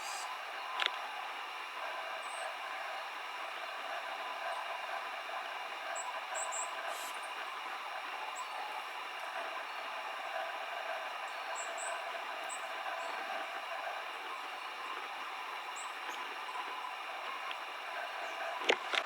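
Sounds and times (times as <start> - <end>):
small birds chirping: 1.7 - 18.6.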